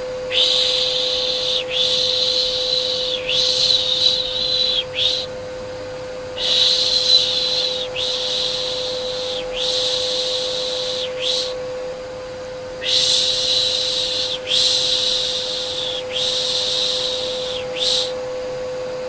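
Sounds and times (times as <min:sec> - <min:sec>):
vacuum cleaner hum: 0:00.0 - 0:19.0
person shushing: 0:00.3 - 0:05.4, 0:06.3 - 0:11.6, 0:12.8 - 0:18.2.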